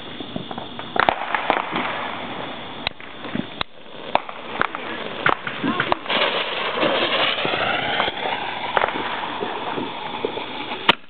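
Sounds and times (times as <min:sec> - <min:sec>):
firework hissing and crackling: 0:00.0 - 0:11.0.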